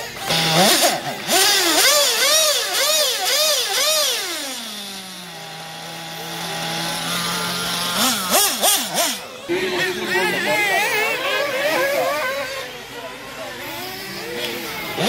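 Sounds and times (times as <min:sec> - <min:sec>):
nitro engine revving and idling: 0:00.0 - 0:15.0.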